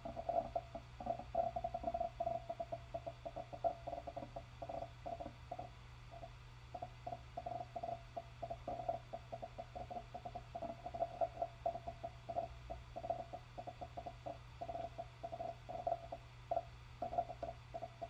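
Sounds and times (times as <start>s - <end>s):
hard drive spinning hum: 0.0s - 18.0s.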